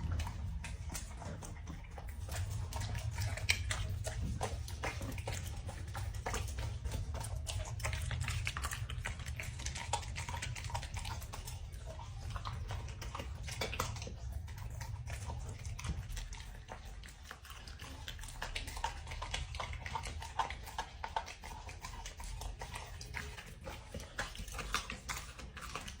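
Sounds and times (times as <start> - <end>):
dog chewing food: 0.0 - 26.0
steady low hum: 0.0 - 26.0.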